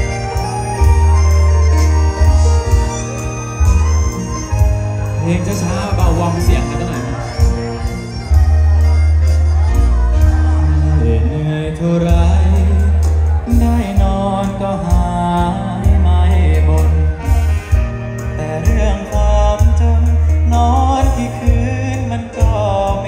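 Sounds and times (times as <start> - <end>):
heavy bass line: 0.0 - 23.0
live band with singing: 0.0 - 23.0.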